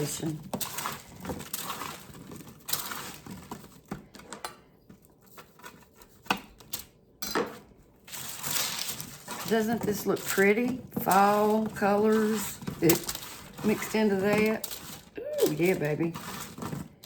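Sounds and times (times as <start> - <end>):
vegetables rustling on foil: 0.0 - 4.2, 7.5 - 17.0.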